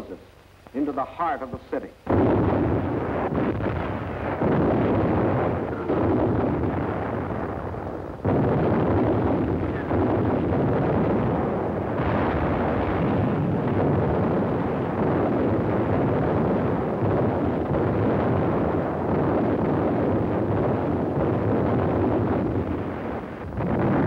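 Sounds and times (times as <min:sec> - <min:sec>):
artillery bombardment: 0:02.1 - 0:24.0.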